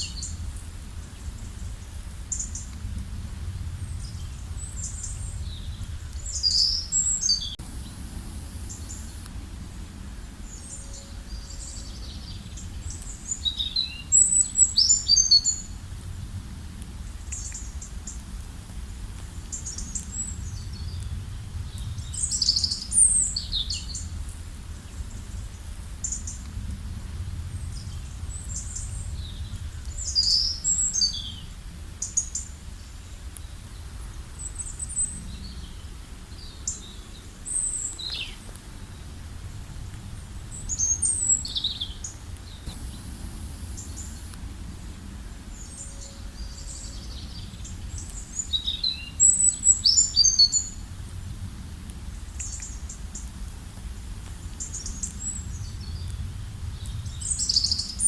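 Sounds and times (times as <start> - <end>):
songbirds chirping: 0.0 - 16.2, 16.8 - 51.2, 51.8 - 58.0
low steady rumble: 0.0 - 58.0.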